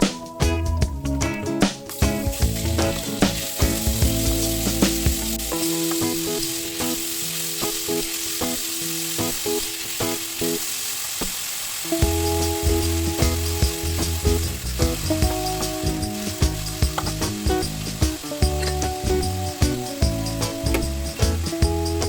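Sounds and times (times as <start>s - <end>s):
background music: 0.0s - 10.9s, 11.9s - 22.0s
chicken sizzling in oil: 1.6s - 22.0s.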